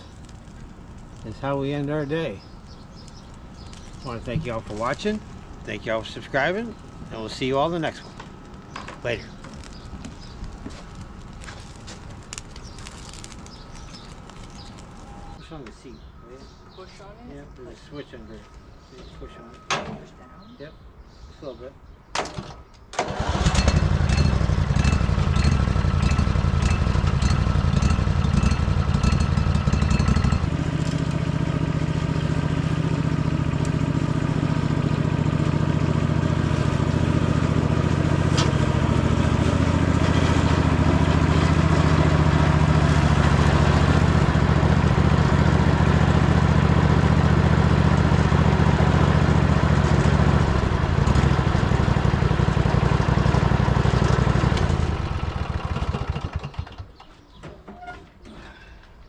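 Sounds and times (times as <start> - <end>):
lawn tractor engine running: 0.0 - 15.4, 22.4 - 57.1.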